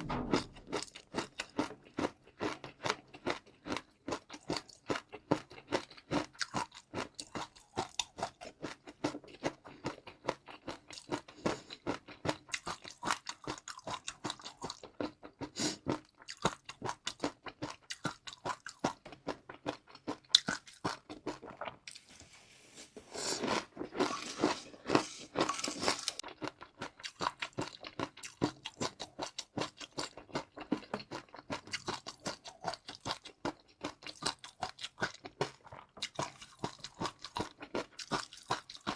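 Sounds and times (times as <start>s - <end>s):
chewing crunchy food: 0.0s - 22.3s, 23.0s - 38.9s.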